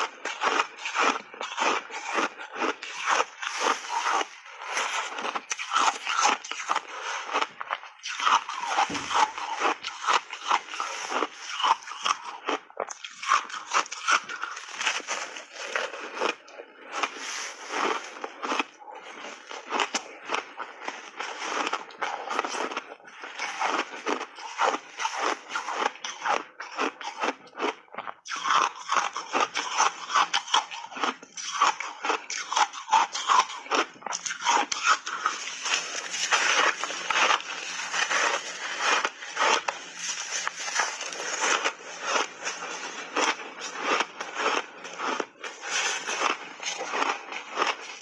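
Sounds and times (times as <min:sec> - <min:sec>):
chewing ice crunches: 0:00.0 - 0:48.0.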